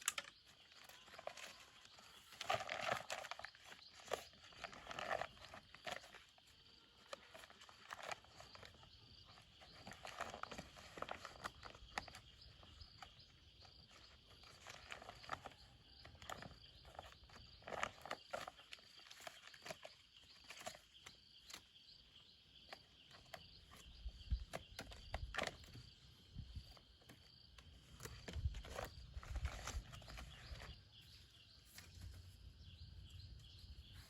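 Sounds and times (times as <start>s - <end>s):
faint rustles and clicks: 0.0s - 34.0s.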